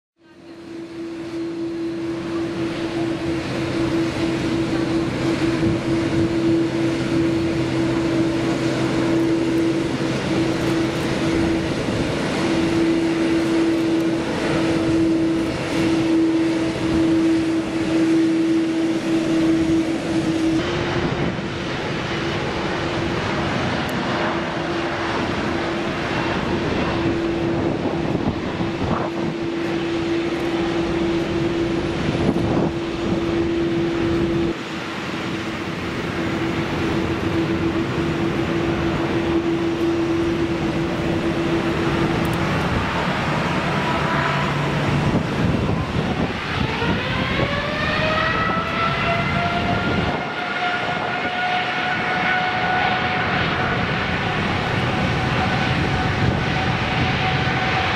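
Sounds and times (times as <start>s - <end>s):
jet engines humming at idle: 0.2s - 57.9s
jet engines spooling up whine: 0.2s - 57.9s.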